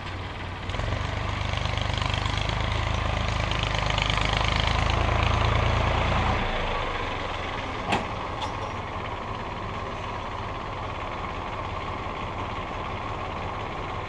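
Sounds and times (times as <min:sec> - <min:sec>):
diesel tractor engine idling: 0:00.0 - 0:14.0.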